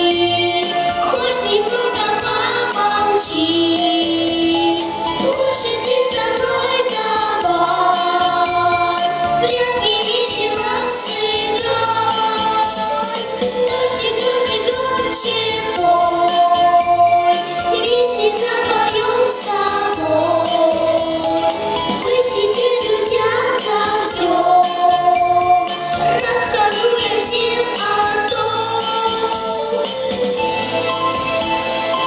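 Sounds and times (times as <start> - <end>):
voices singing with instruments: 0.0 - 30.4.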